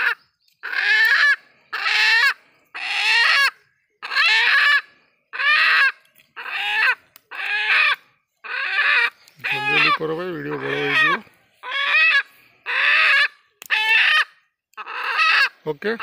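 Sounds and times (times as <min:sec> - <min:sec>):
animal crying out loudly: 0:00.0 - 0:15.6.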